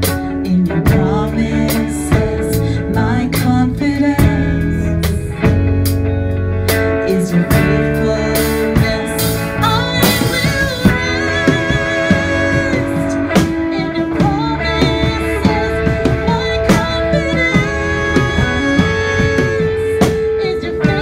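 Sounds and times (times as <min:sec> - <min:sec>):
drum kit: 0:00.0 - 0:21.0
electric guitars: 0:00.0 - 0:21.0
people singing: 0:00.7 - 0:05.2, 0:07.1 - 0:21.0.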